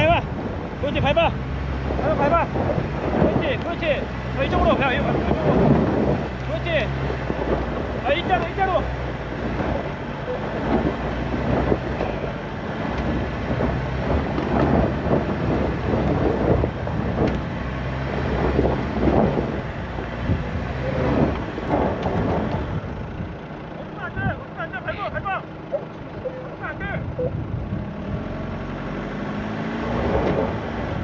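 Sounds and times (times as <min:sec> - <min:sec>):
gravel crunching under tyres: 0:00.0 - 0:26.9
diesel engine pulling at low speed: 0:00.0 - 0:31.0.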